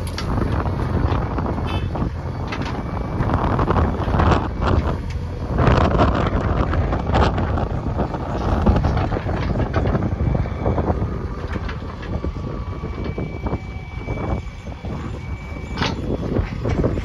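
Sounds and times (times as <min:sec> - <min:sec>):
diesel engine rumbling: 0:00.0 - 0:17.0
wind buffeting microphone: 0:00.0 - 0:17.0.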